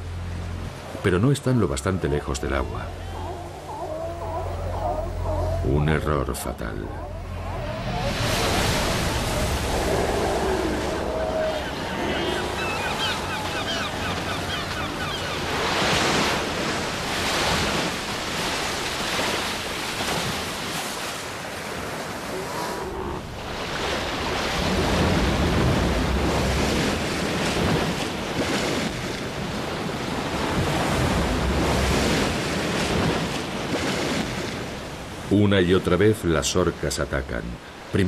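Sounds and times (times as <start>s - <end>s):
ocean surf breaking: 0.0s - 38.0s
wind: 0.0s - 38.0s.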